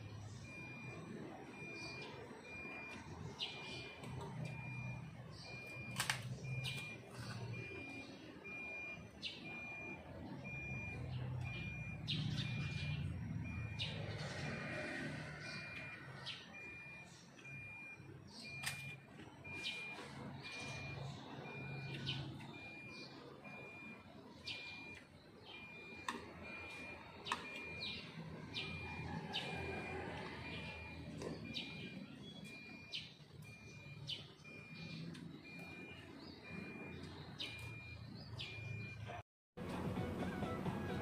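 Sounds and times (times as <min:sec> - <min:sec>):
small birds chirping: 0:00.2 - 0:39.2.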